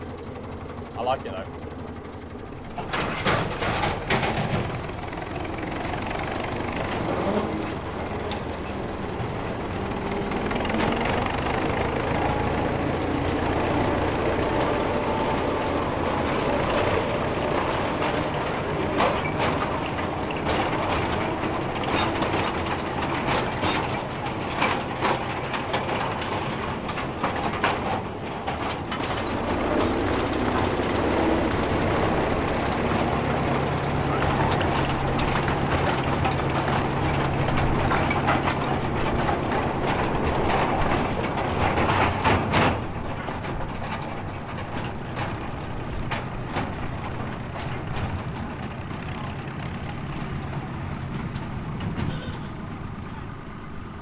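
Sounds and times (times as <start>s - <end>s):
locomotive engine running: 0.0s - 54.0s
wheels clicking and clanking on rails: 0.0s - 54.0s.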